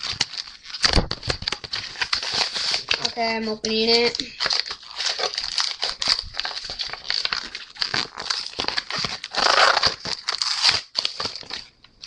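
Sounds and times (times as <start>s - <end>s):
plastic foil wrapper crinkling and tearing: 0.0s - 12.0s.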